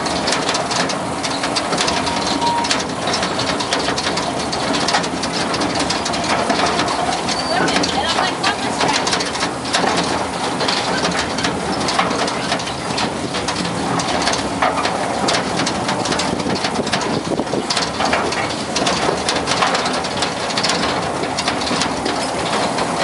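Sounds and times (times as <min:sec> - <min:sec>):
train car rattling on track: 0:00.0 - 0:23.0.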